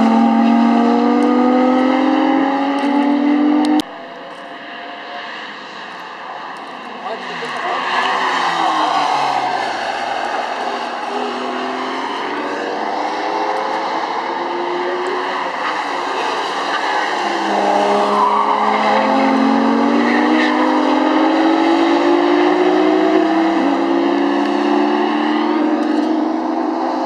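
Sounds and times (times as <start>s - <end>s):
sports car engine accelerating: 0.0s - 6.0s, 6.6s - 16.6s, 17.2s - 27.0s.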